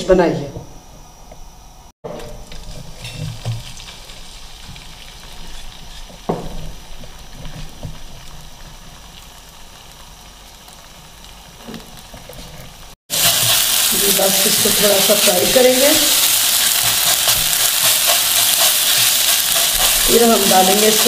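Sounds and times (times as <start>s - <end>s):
potato paste sizzling in oil: 2.4s - 21.0s.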